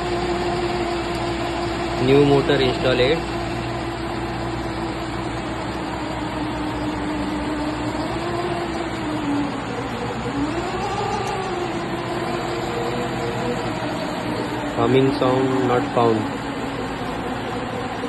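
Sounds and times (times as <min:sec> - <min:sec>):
electric motor tone: 0:00.0 - 0:18.0.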